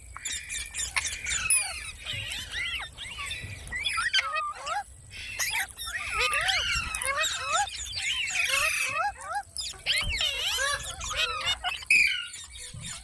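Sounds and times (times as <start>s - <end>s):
parrot chirps whistles and squawks: 0.2s - 13.0s.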